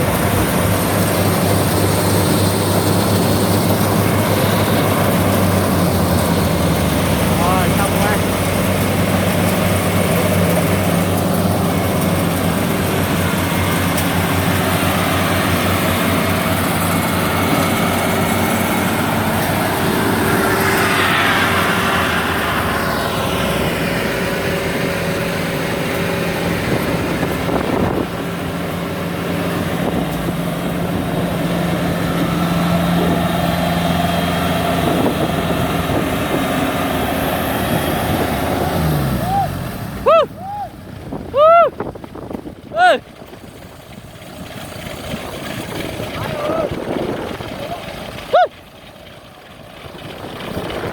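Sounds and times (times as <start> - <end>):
combine harvester engine running: 0.0 - 50.9.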